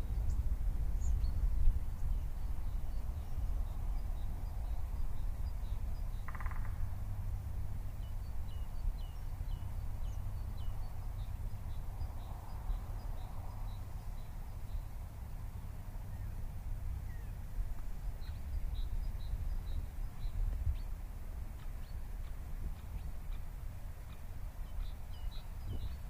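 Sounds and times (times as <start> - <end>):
small birds chirping: 0.0 - 16.4, 17.0 - 26.0.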